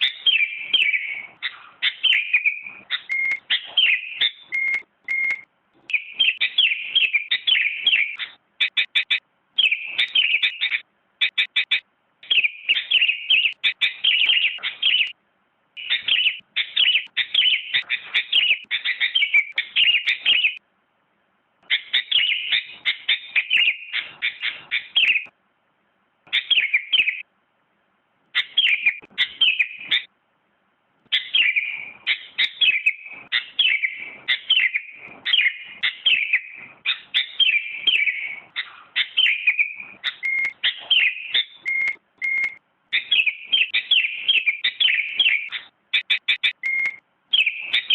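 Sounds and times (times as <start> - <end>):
bird singing chirping whistles: 0.0 - 15.2, 15.8 - 20.6, 21.7 - 25.3, 26.3 - 27.3, 28.4 - 30.1, 31.1 - 47.9.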